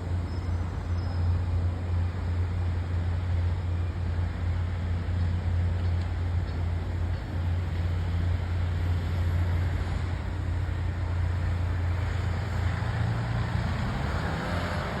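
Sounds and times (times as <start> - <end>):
diesel locomotive hum: 0.0 - 15.0
train rushing noise: 0.0 - 15.0.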